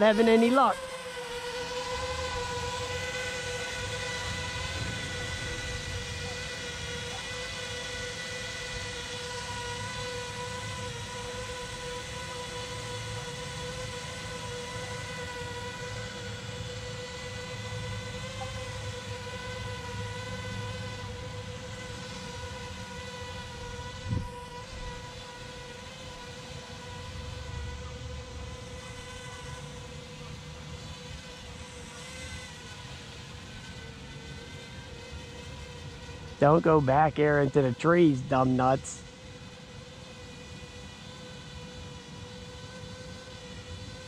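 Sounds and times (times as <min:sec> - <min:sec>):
drone propellers whining: 0:00.0 - 0:44.0.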